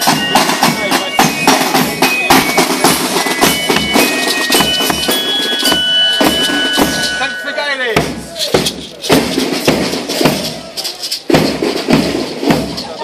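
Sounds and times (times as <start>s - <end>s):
marching band playing: 0.0s - 13.0s
side drums beating: 0.0s - 13.0s.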